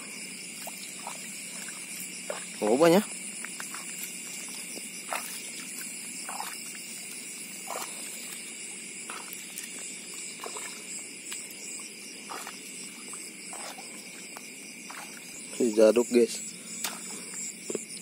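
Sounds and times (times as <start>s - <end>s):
crickets and insects chorus: 0.0s - 18.0s.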